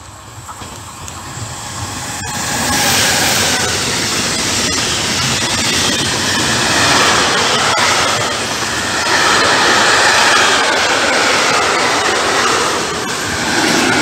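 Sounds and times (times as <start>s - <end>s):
electric locomotive passing: 0.0s - 14.0s
wheels rushing on rails: 0.0s - 14.0s.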